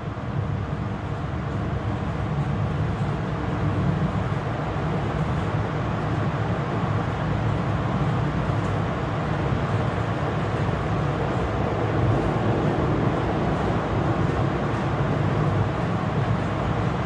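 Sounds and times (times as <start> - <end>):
moving train rumble: 0.0 - 17.0.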